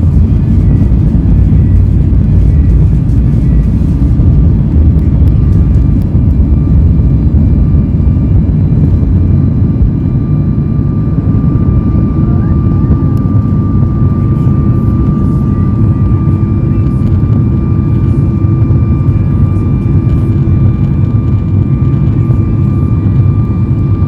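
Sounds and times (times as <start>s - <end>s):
jet engine high whine: 0.0s - 24.0s
jet engine low rumble: 0.0s - 24.0s.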